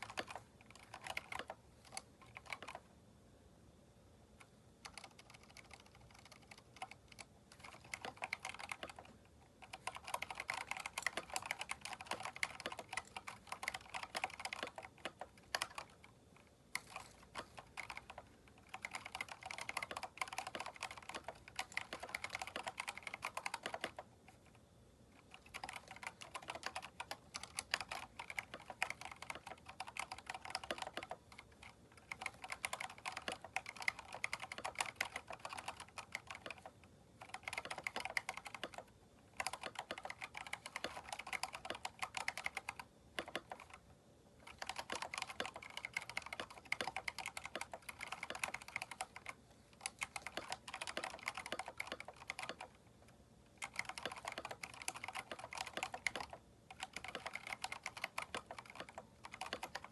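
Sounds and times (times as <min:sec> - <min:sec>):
mechanical keyboard typing: 0:00.0 - 0:02.9, 0:04.4 - 0:24.6, 0:25.2 - 0:43.8, 0:44.4 - 0:52.8, 0:53.5 - 0:59.9.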